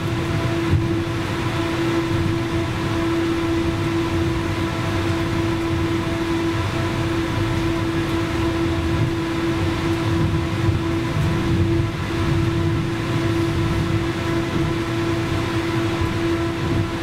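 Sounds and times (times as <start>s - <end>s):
tram electrical hum: 0.0s - 17.0s
tram rolling rumble: 0.0s - 17.0s.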